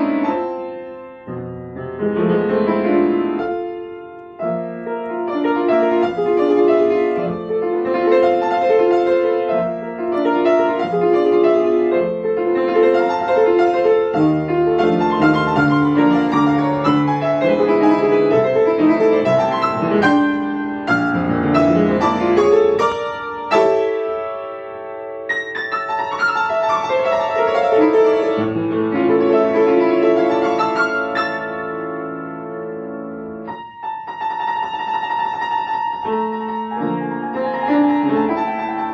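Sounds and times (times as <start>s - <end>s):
solo grand piano piece: 0.0s - 38.9s.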